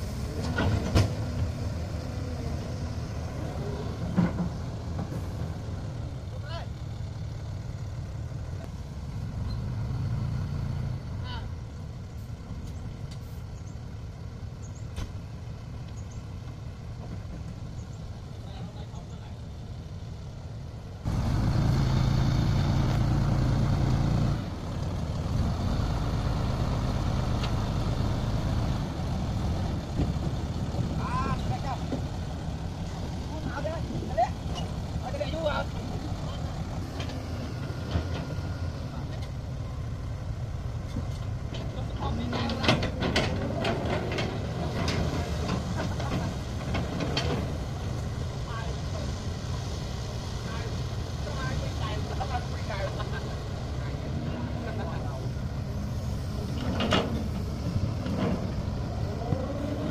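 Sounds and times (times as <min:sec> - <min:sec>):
diesel engines rumbling: 0:00.0 - 0:59.9.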